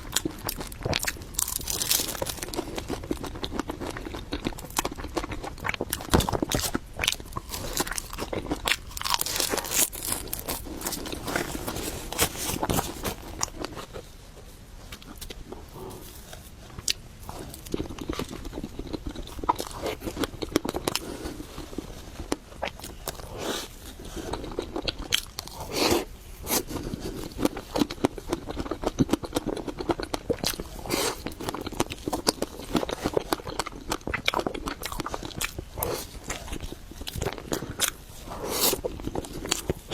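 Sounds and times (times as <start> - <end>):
person biting and chewing food: 0.0 - 14.1, 14.9 - 39.9.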